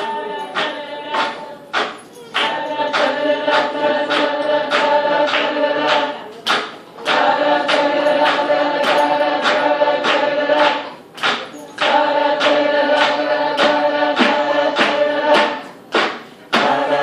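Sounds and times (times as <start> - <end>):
steady percussion beat: 0.0 - 17.0.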